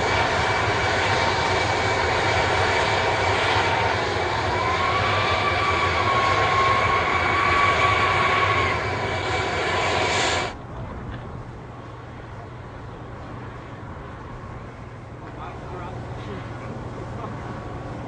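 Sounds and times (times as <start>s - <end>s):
jet engines running with whine: 0.0s - 18.0s.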